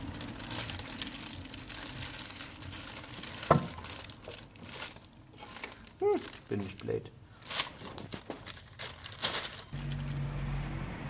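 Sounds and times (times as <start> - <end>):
rustling and handling noise: 0.0 - 10.6.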